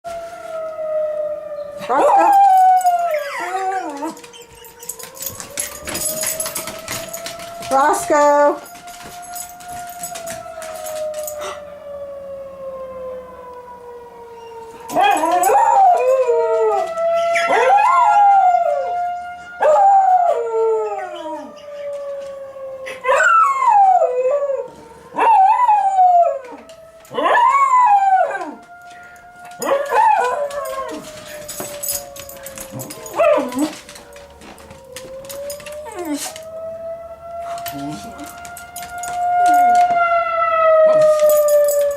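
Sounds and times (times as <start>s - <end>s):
warning siren wailing: 0.0s - 41.9s
dog howling: 0.3s - 12.2s, 19.6s - 41.9s.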